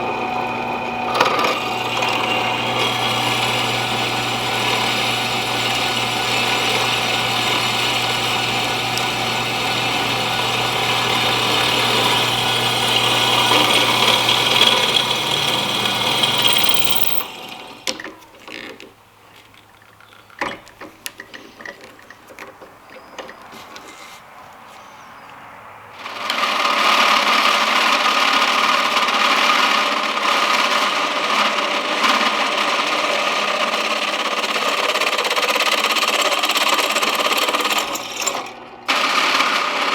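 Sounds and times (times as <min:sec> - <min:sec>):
electric drill boring into wood: 0:00.0 - 0:18.8, 0:26.0 - 0:39.9
power tool running: 0:00.0 - 0:18.8, 0:26.0 - 0:39.9.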